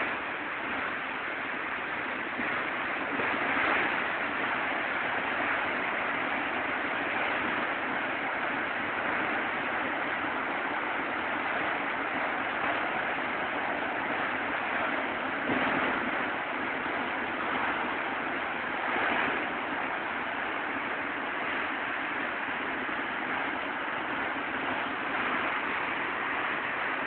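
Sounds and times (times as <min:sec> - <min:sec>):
heavy surf breaking on beach: 0:00.0 - 0:27.0.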